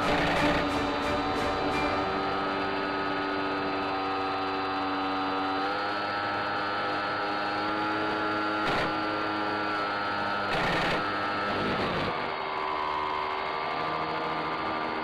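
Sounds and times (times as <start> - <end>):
rc plane motor and propeller whining: 0.0 - 15.0.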